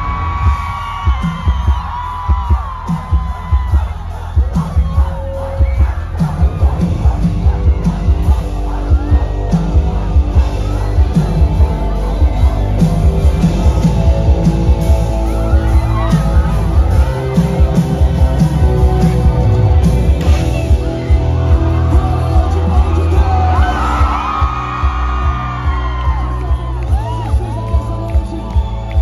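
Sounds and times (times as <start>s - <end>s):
amplified music with singing: 0.0s - 29.0s
crowd shouts and whoops: 0.0s - 29.0s
heavy bass beat: 0.0s - 29.0s.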